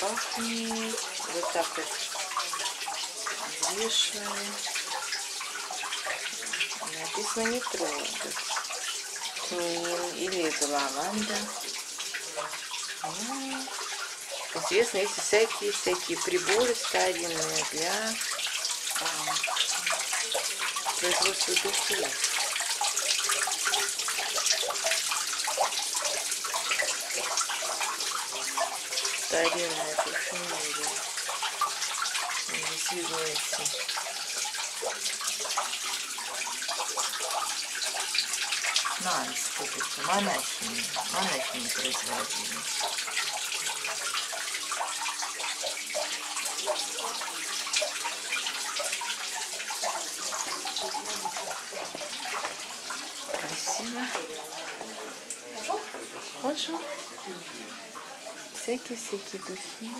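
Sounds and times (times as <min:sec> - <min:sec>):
fountain water trickling and splashing: 0:00.0 - 0:59.9.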